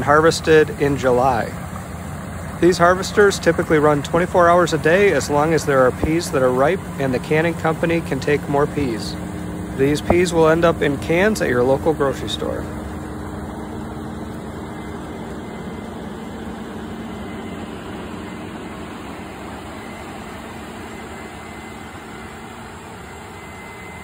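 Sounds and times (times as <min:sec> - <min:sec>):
harvester diesel engine drone: 0:00.0 - 0:24.0.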